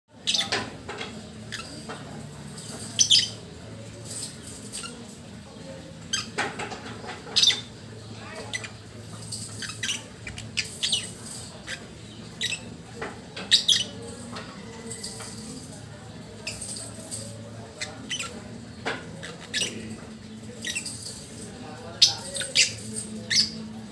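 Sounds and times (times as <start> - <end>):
bird chirping and squeaking: 0.2 - 0.7, 1.3 - 3.5, 4.2 - 5.2, 6.0 - 6.5, 7.2 - 15.5, 16.4 - 23.7.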